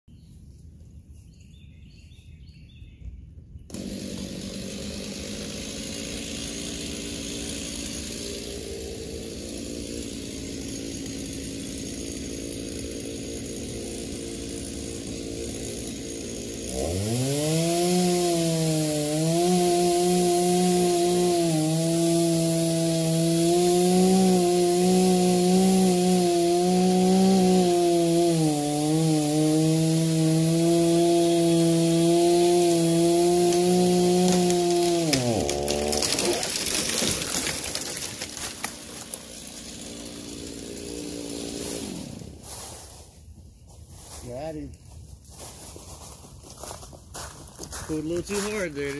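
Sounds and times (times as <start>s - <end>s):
chainsaw idling and cutting wood: 3.6s - 48.9s.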